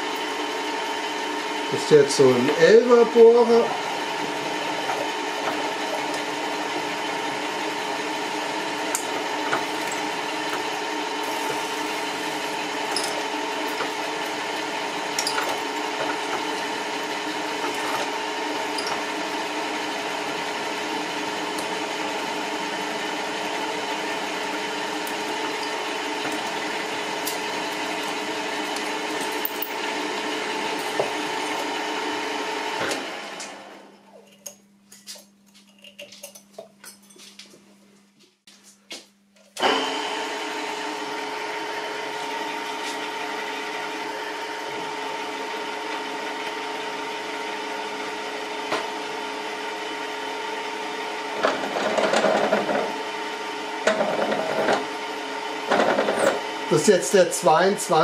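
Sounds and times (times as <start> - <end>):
drill running down: 0.0 - 33.7, 39.6 - 58.0
pillar drill motor hum: 0.0 - 33.9, 39.6 - 58.0.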